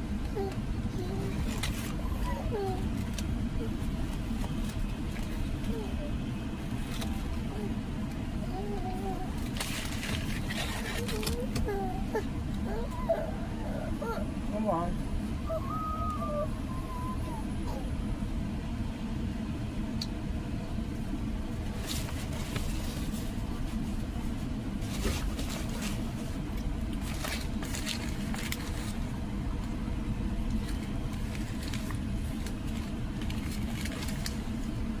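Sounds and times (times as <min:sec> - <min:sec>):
car interior rumble: 0:00.0 - 0:35.0.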